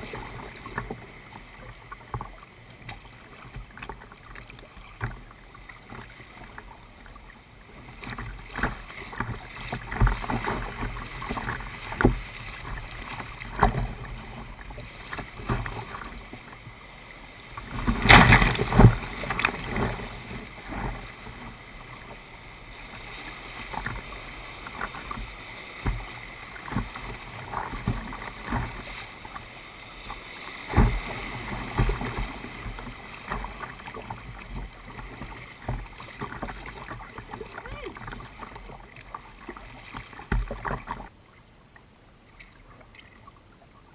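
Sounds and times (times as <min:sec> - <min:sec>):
moving water wash: 0:00.0 - 0:41.2
paddle splashing in water: 0:00.0 - 0:43.9.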